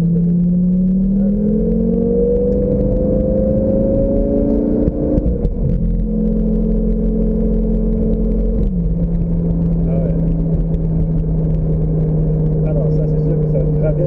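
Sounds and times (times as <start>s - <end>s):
sports car engine running: 0.0s - 14.0s.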